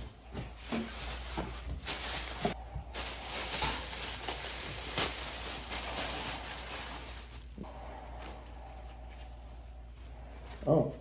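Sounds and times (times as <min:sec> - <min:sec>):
plastic bags crinkling: 0:00.3 - 0:10.9.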